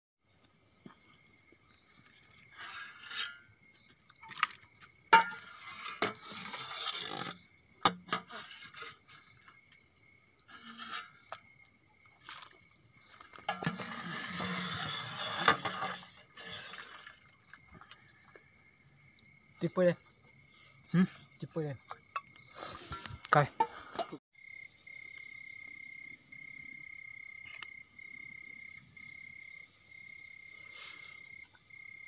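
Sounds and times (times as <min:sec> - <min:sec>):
cricket trill: 0:00.2 - 0:32.0.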